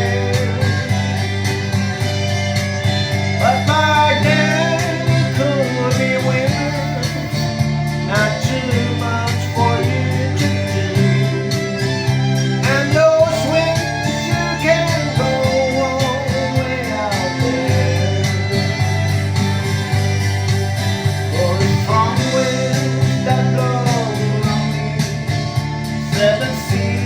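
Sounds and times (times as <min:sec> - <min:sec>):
person singing slow melody: 0:00.0 - 0:19.9, 0:21.3 - 0:27.0
guitar accompaniment: 0:00.0 - 0:27.0.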